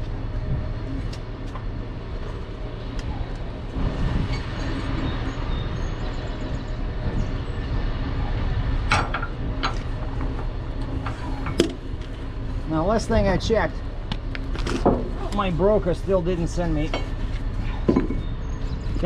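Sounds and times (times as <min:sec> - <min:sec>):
heavy vehicle engine rumble: 0:00.0 - 0:19.0.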